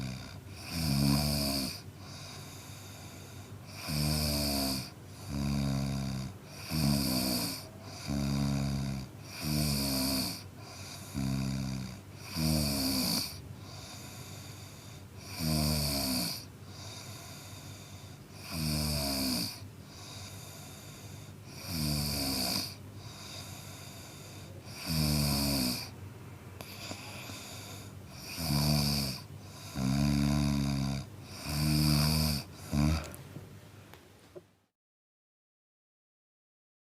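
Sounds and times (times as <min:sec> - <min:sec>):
man snoring: 0:00.0 - 0:25.9, 0:26.6 - 0:33.2.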